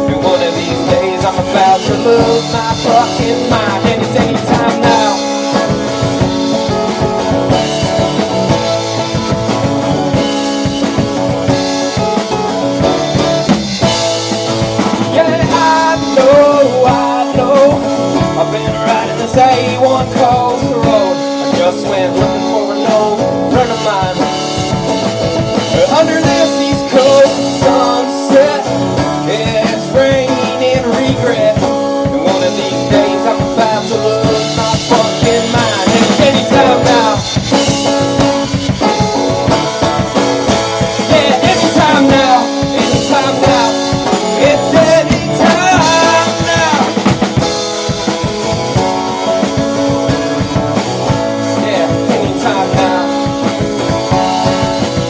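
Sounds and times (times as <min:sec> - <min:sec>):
acoustic band playing: 0:00.0 - 0:55.0.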